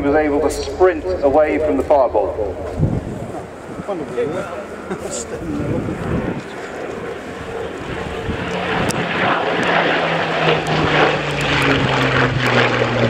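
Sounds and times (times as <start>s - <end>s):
aircraft engine passing: 0.0s - 13.0s.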